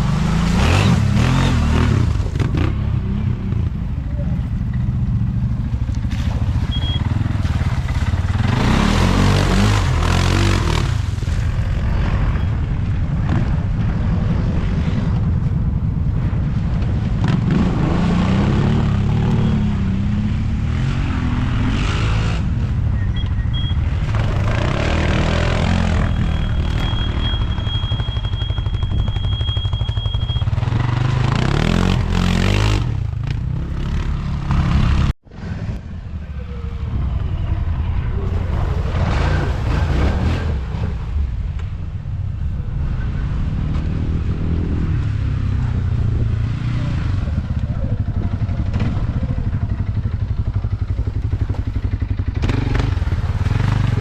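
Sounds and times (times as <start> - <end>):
quad bike engine revving: 0.0 - 13.6, 17.1 - 41.0, 42.6 - 54.0.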